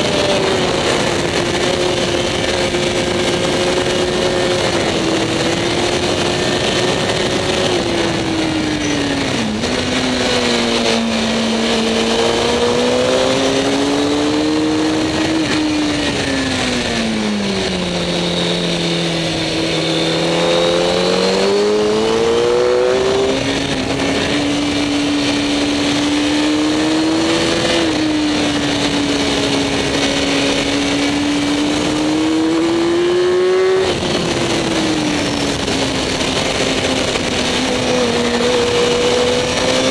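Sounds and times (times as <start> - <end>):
motorcycle engine at speed: 0.0 - 39.9
wind rushing over microphone: 0.0 - 39.9.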